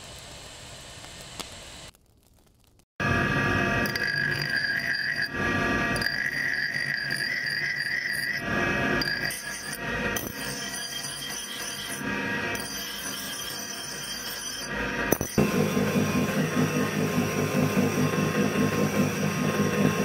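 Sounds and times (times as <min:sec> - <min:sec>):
grinding wheel whining on steel: 0:03.0 - 0:20.0.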